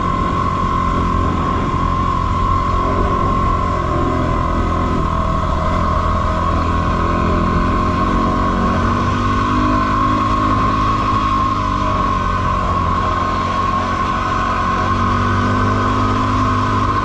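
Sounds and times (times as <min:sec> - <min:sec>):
high whine: 0:00.0 - 0:17.0
motorcycle engine running: 0:00.0 - 0:17.0
wind and tyre noise: 0:00.0 - 0:17.0.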